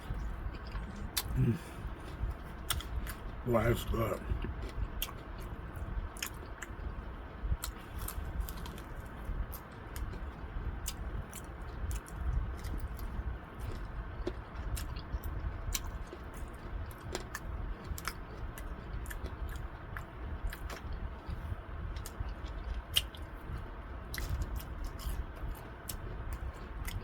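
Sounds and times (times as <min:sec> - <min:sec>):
chewing crunchy fried chicken: 0:00.0 - 0:27.0.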